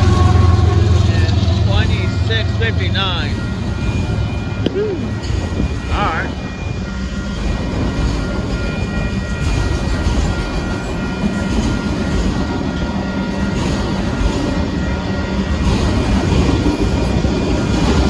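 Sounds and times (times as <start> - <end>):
faint crossing bell ringing: 0.7 - 16.0
freight wheels rumbling and clattering: 3.0 - 18.0.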